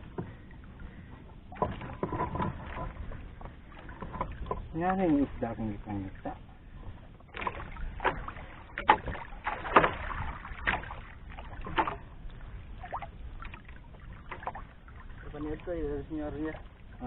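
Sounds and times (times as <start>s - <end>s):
water slapping against boat hull: 0.0s - 17.0s.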